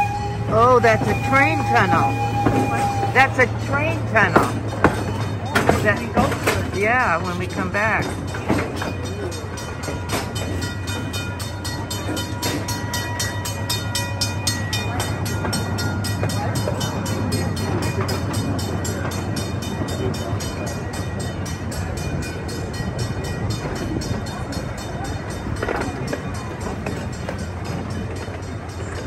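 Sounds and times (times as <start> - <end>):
train engine hum: 0.0 - 29.0
train wheels clicking: 0.0 - 29.0.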